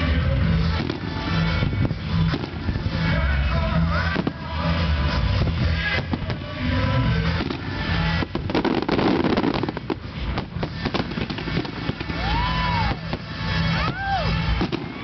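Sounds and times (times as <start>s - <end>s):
fireworks bangs: 0.5s - 15.0s.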